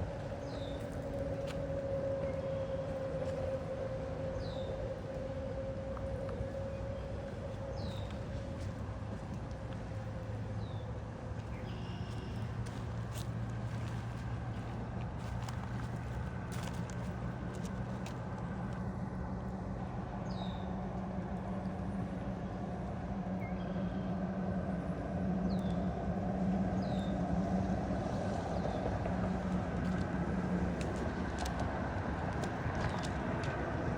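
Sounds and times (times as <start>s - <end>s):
low motor hum: 0.0s - 33.9s.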